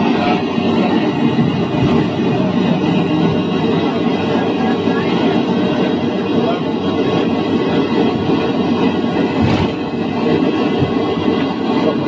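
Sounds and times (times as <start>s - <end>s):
rumbling aircraft cabin noise: 0.0s - 12.0s.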